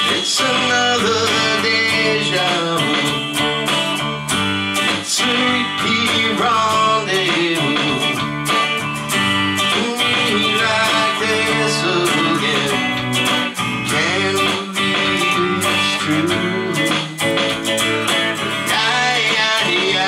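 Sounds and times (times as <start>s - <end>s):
man singing country song: 0.0s - 4.2s, 4.9s - 8.3s, 9.7s - 17.5s, 18.6s - 20.0s
electric guitar strumming: 0.0s - 20.0s.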